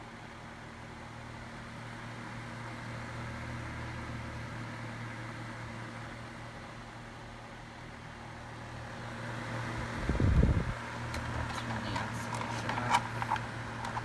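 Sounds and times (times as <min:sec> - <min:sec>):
desk fan running: 0:00.0 - 0:14.0.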